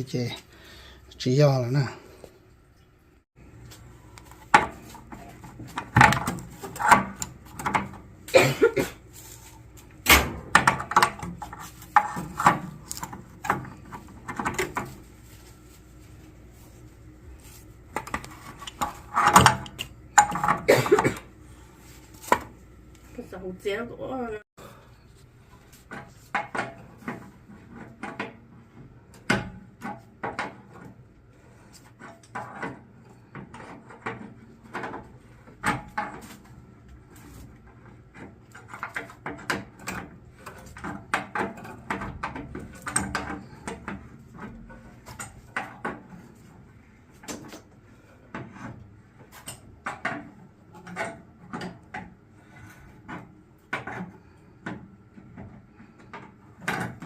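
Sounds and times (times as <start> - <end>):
tools knocking and scraping on pipes: 3.6 - 22.6, 25.4 - 57.0.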